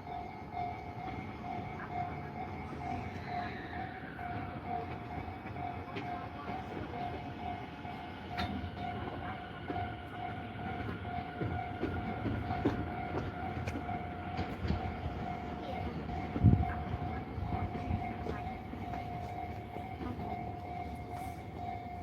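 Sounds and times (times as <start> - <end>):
level-crossing warning bell: 0.0 - 22.0
passing train rumble: 0.0 - 22.0
train wheel clicks: 4.4 - 22.0.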